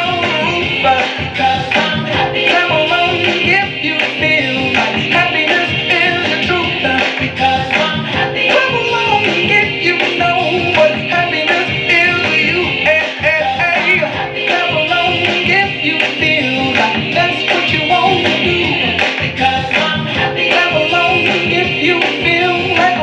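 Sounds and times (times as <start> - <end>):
song with singing and guitar: 0.0 - 23.0.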